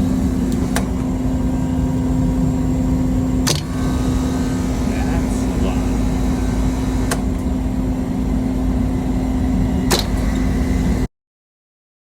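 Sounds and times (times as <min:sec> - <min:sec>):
air conditioner humming: 0:00.0 - 0:11.1.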